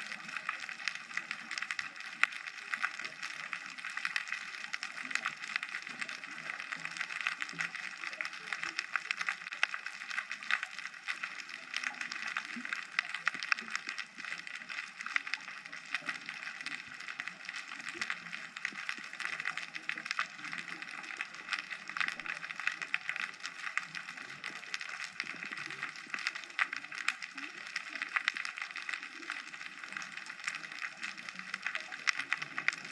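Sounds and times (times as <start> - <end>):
underwater crackle: 0.0 - 32.9.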